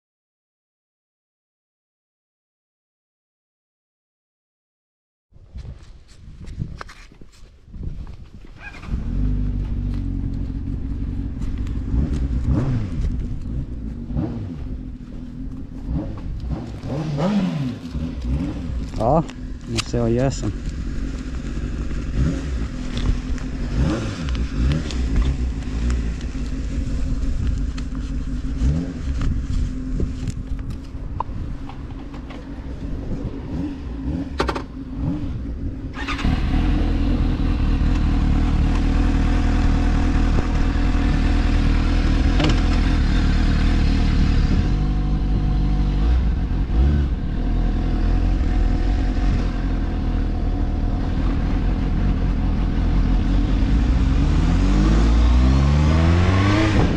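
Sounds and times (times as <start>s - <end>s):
vehicle engine running: 9.0s - 56.9s.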